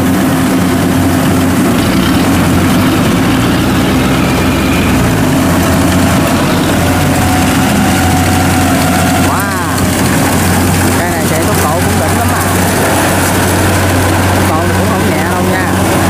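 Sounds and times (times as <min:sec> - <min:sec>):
combine harvester diesel engine: 0:00.0 - 0:16.0.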